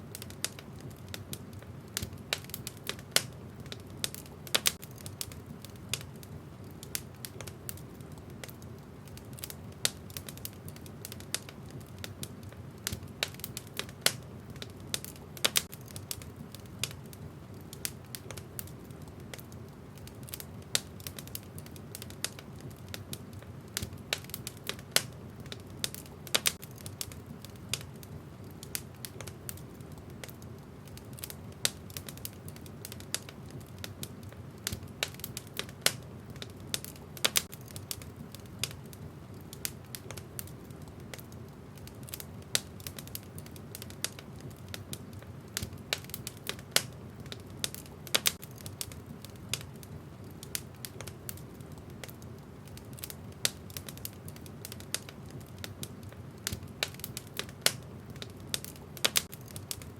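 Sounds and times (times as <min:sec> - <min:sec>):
logs popping and crackling: 0:00.0 - 0:59.9
low rumble of flame: 0:00.0 - 0:59.9.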